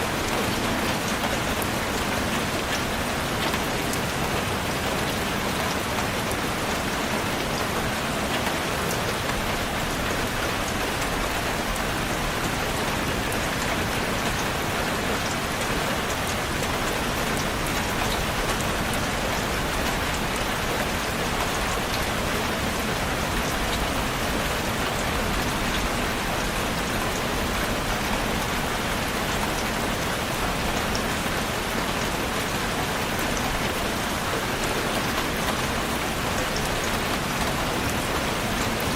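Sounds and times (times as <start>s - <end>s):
raindrop patter: 0.0s - 38.9s
steady rain falling: 0.0s - 38.9s.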